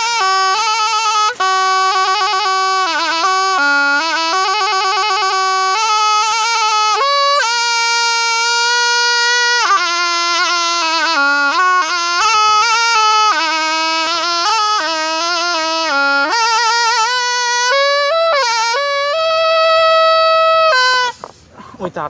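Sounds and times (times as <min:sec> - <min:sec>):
reed oboe solo melody: 0:00.0 - 0:21.5.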